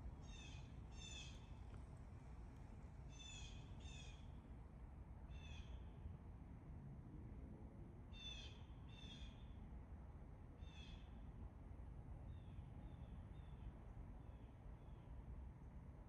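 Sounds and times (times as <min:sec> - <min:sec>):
faint low outdoor rumble: 0:00.0 - 0:16.0.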